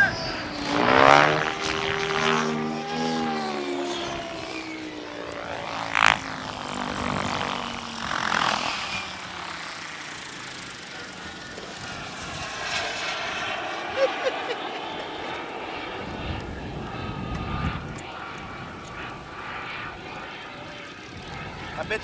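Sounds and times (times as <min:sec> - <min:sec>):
model helicopter rotor drone: 0:00.0 - 0:22.0.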